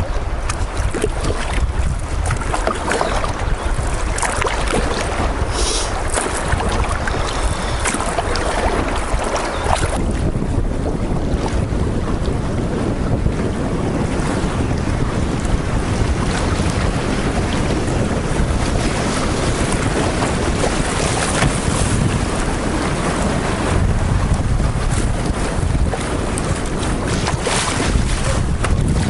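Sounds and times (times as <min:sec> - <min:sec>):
choppy river water rushing: 0:00.0 - 0:29.0
wind rumbling on microphone: 0:00.0 - 0:29.0.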